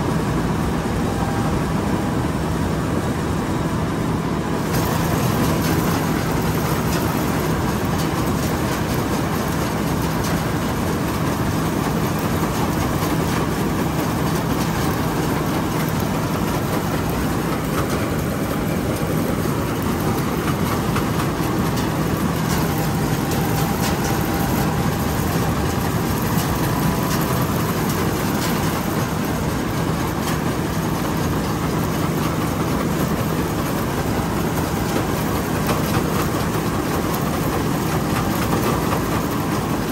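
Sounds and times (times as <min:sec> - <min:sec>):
combine harvester engine drone: 0:00.0 - 0:39.9
mechanical clatter: 0:04.6 - 0:39.9.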